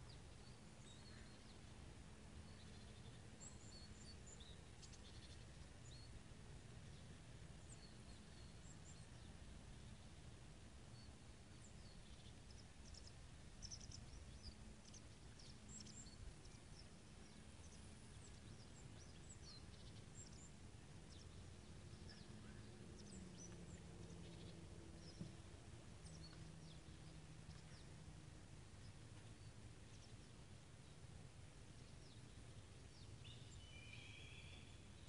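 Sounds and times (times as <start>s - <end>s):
low steady drone: 0.0s - 35.0s
small birds chirping: 0.0s - 35.0s.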